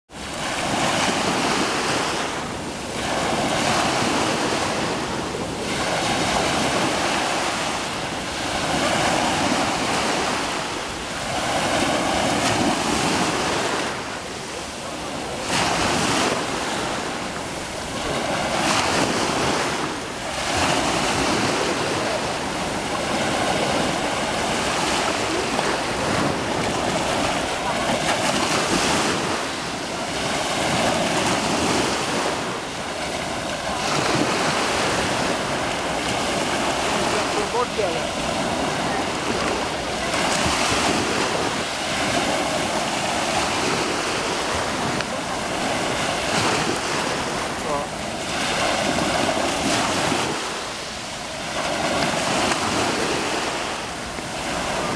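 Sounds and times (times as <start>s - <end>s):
waves washing over sand: 0.1s - 54.9s.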